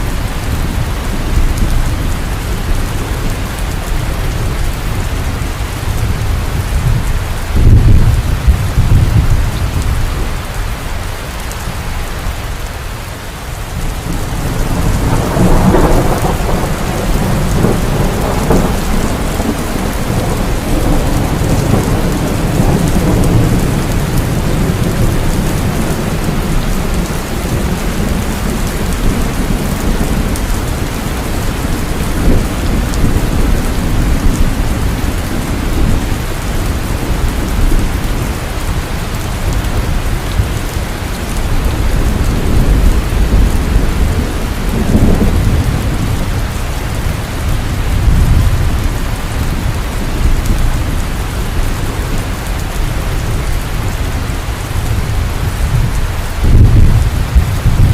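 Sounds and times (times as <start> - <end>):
low rolling thunder: 0.0 - 12.7, 13.6 - 57.9
heavy rain: 0.0 - 57.9.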